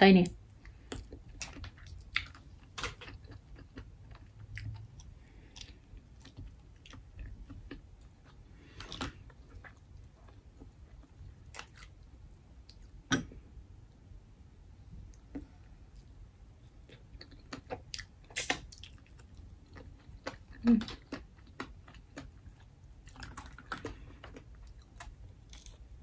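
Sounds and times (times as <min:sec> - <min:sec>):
soft chewing: 0:00.4 - 0:14.0, 0:15.0 - 0:26.0.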